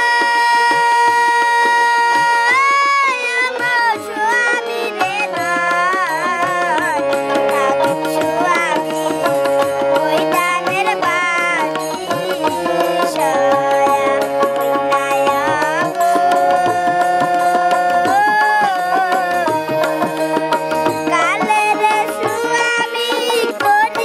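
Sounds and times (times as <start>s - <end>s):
girl singing: 0.0s - 20.1s, 21.0s - 24.0s
instrumental accompaniment: 0.0s - 24.0s.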